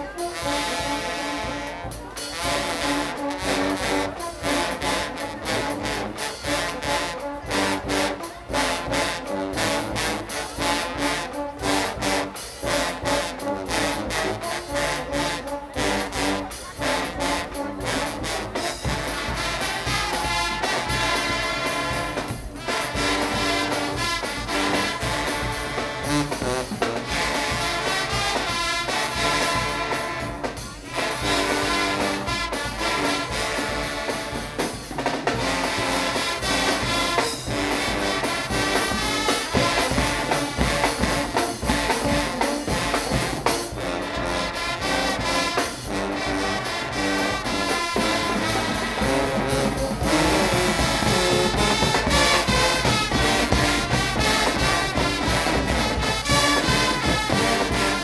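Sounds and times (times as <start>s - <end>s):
drums beating: 0.0s - 58.0s
trumpets and trombones: 0.0s - 58.0s.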